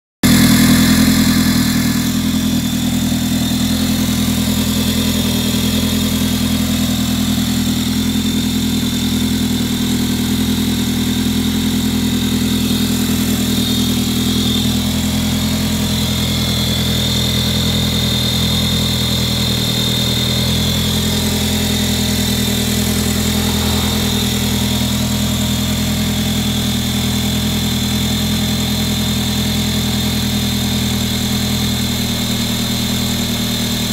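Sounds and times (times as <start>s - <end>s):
high-pitched engine screech: 0.2s - 28.2s
car engine idling: 0.2s - 33.9s.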